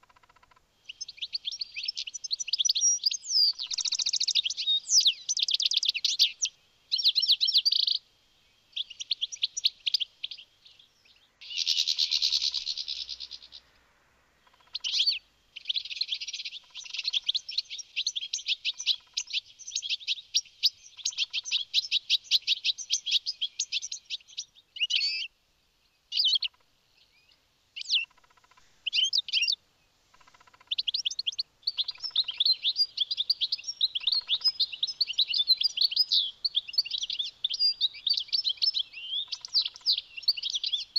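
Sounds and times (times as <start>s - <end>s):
goldfinch singing: 0.0s - 8.0s, 8.7s - 13.6s, 14.4s - 25.3s, 26.1s - 29.6s, 30.2s - 40.9s.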